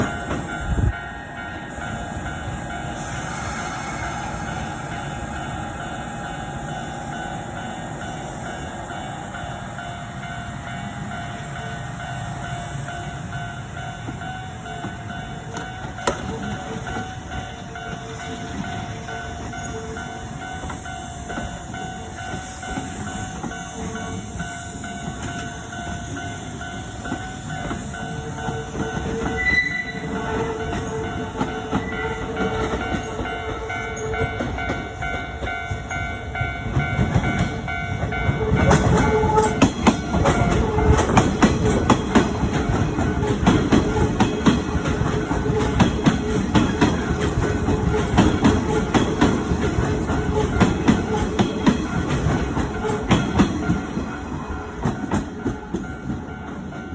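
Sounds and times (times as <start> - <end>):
level crossing warning bells: 0.0 - 56.9
train rumble: 0.0 - 56.9.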